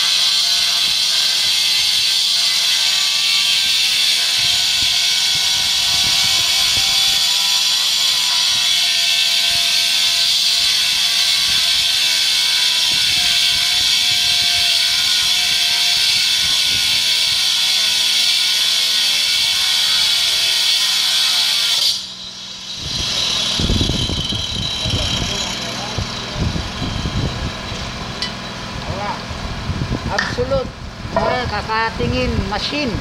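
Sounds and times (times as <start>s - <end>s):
angle grinder cutting stone: 0.0s - 29.3s.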